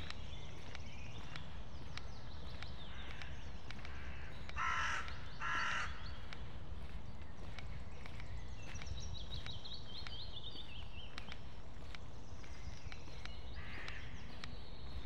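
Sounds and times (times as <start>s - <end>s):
footsteps crunching on dirt path: 0.0s - 15.0s
songbird singing: 0.0s - 15.0s.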